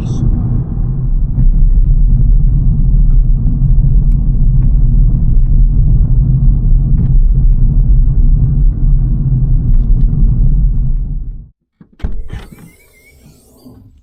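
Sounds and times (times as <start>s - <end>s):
car interior road rumble: 0.0s - 11.5s.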